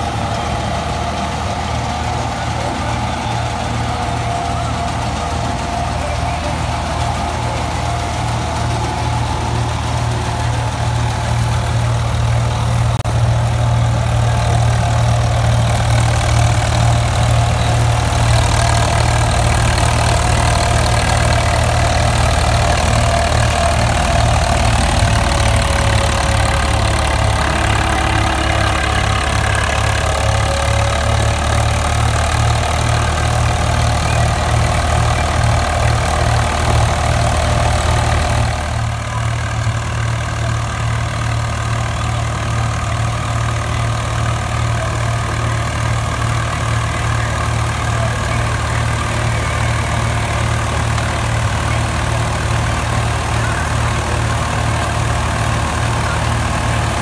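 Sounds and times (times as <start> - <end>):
reaper mechanical whine: 0.0 - 57.0
tractor diesel engine running: 0.0 - 57.0.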